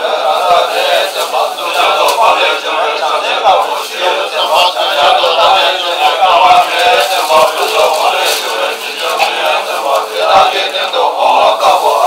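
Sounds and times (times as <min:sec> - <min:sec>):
monks chanting in unison: 0:00.0 - 0:12.0.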